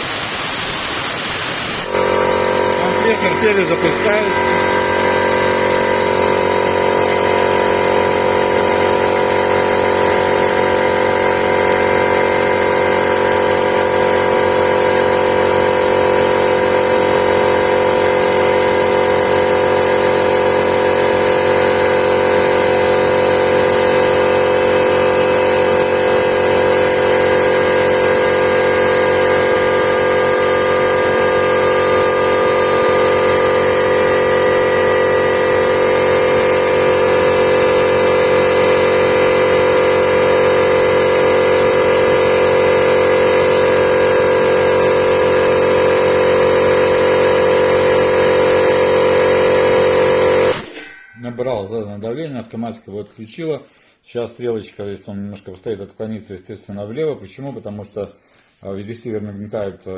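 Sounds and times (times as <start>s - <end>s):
air compressor running: 0.0s - 51.2s.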